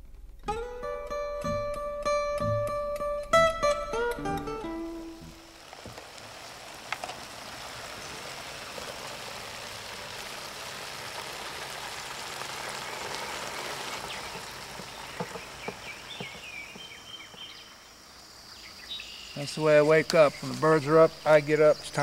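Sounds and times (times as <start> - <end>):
steady background hiss: 0.0 - 22.0
birds chirping: 4.2 - 22.0.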